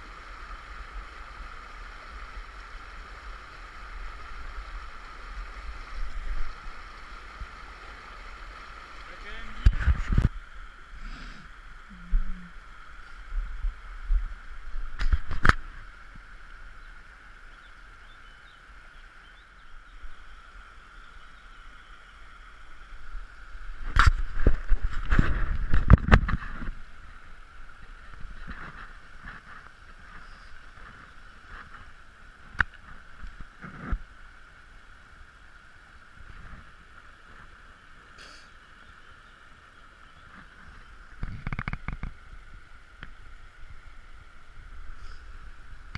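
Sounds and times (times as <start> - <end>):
stream running over rocks: 0.0 - 45.9.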